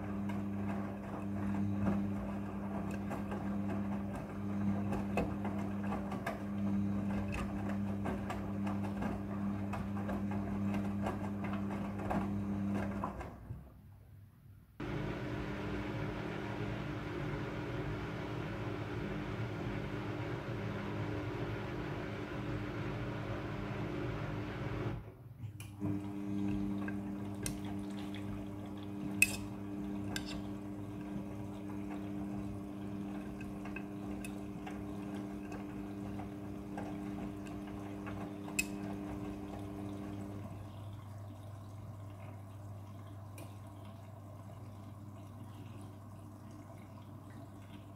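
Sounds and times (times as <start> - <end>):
washing machine motor hum: 0.0 - 47.9.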